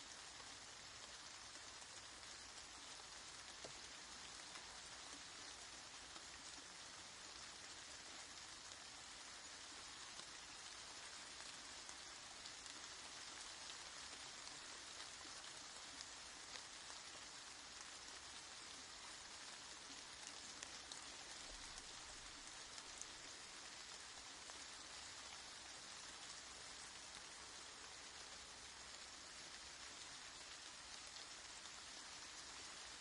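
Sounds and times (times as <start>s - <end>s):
soft steady rain: 0.0s - 33.0s.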